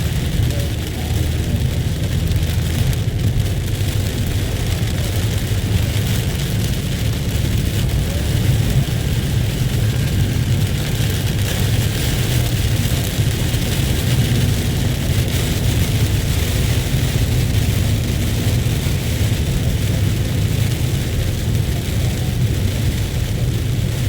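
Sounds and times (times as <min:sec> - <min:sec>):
constant low rumble: 0:00.0 - 0:24.0
heavy rain falling: 0:00.0 - 0:24.0.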